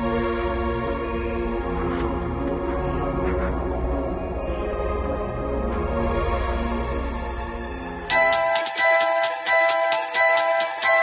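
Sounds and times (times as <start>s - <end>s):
background music with sustained notes: 0.0s - 11.0s.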